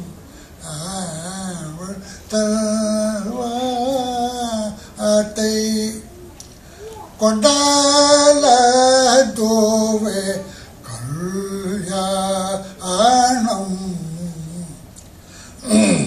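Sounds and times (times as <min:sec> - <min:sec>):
man singing long notes: 0:00.0 - 0:06.2, 0:07.2 - 0:14.9.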